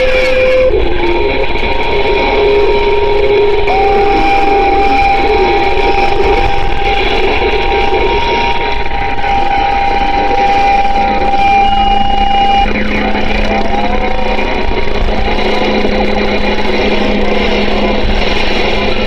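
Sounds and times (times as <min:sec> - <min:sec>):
radio static hiss: 0:00.0 - 0:19.0
steady whistle: 0:00.0 - 0:19.0
warbling squeals: 0:00.0 - 0:19.0.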